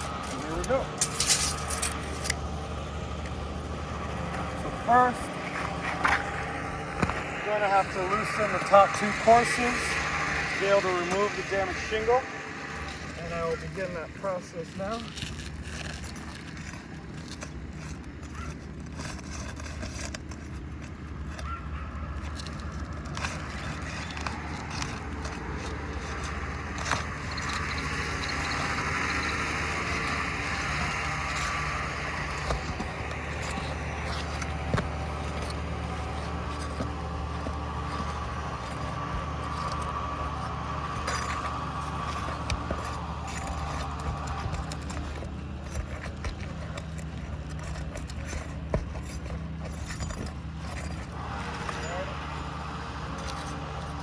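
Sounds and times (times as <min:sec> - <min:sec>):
low background hum: 0:00.0 - 0:54.0
roof shingles scraping and rustling: 0:00.0 - 0:54.0.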